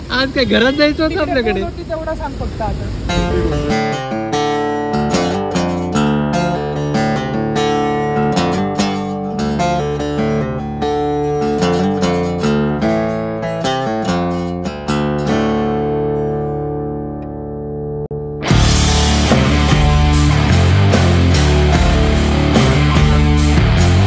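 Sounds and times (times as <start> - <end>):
plucked and strummed guitar: 3.1 - 24.0.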